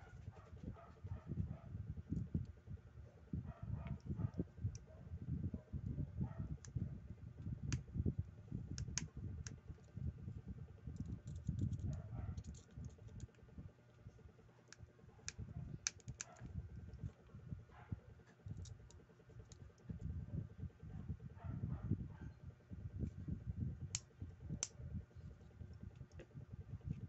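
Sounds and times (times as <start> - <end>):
low rumble of handling: 0.0 - 27.0.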